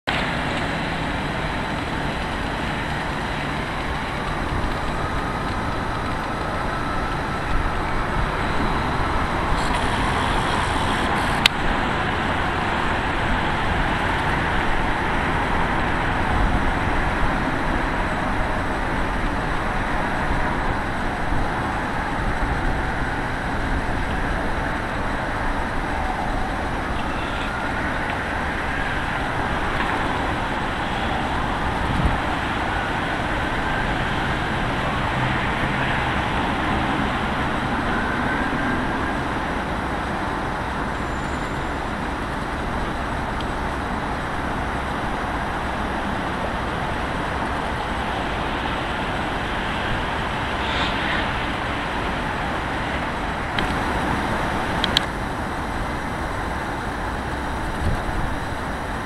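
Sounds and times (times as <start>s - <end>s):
distant sirens wailing: 0.0s - 59.0s
road traffic noise: 0.0s - 59.0s.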